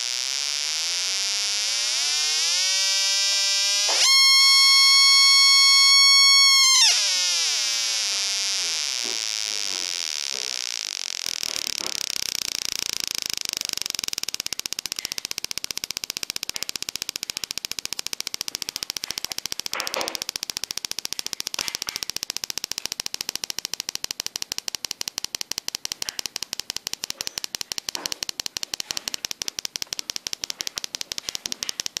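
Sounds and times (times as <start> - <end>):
speaker clicking rapidly: 0.0 - 32.0.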